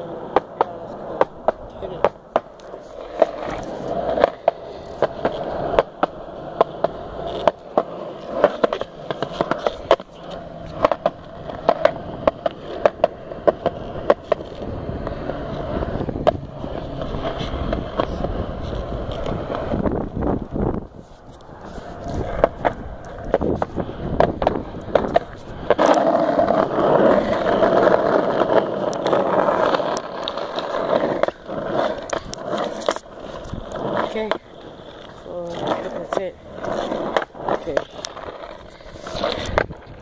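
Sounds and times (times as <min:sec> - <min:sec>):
skateboard wheels clacking over joints: 0:00.0 - 0:40.0
skateboard wheels rolling on concrete: 0:00.0 - 0:40.0.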